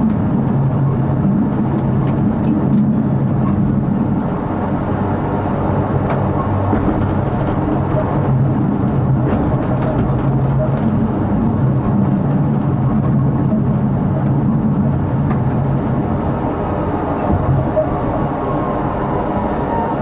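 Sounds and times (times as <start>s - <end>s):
constant low hum: 0.0s - 20.0s
tram wheels rumbling on rails: 0.0s - 20.0s.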